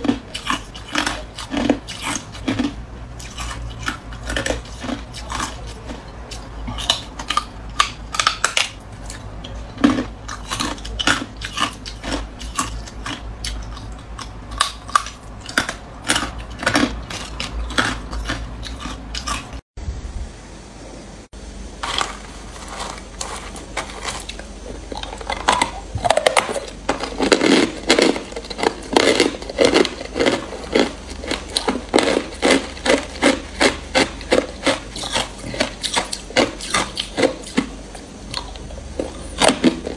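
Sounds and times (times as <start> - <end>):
ice crunching between teeth: 0.0 - 19.6, 21.8 - 37.7.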